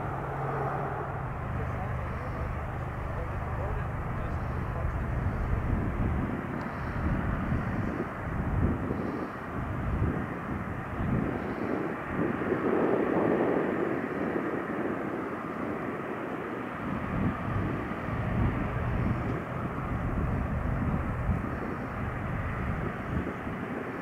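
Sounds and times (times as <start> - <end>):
distant jet engines rumbling: 0.0 - 24.0.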